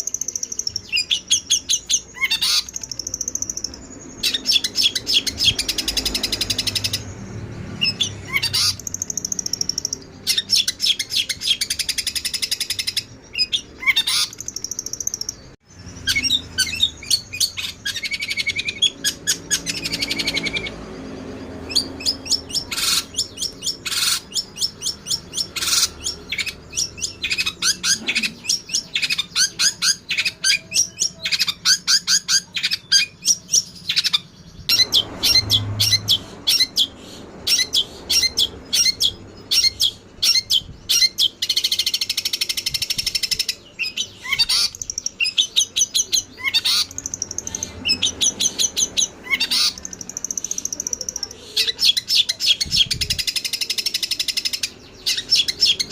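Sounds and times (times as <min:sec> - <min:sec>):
songbird chirping: 0:00.0 - 0:55.9.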